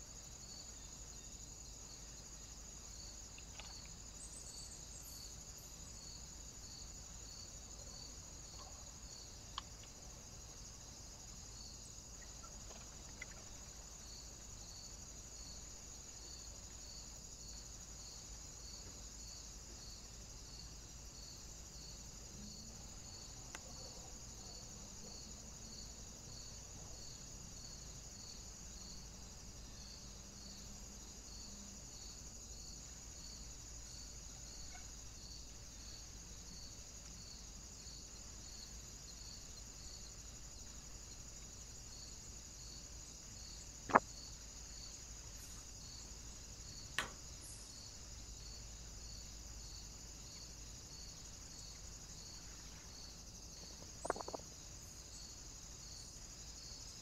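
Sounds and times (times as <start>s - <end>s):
insect chirping: 0.0s - 57.0s
insect chorus hum: 0.0s - 57.0s.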